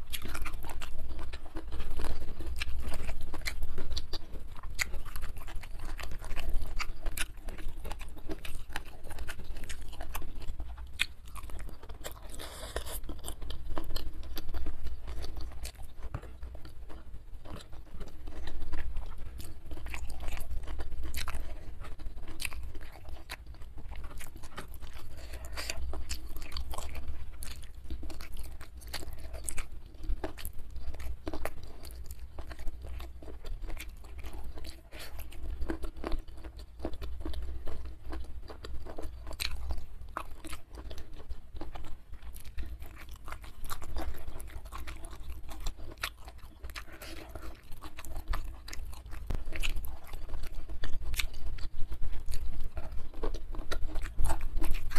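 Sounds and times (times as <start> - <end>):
chewing with crunches: 0.0 - 54.9
steady low hum: 0.0 - 54.9.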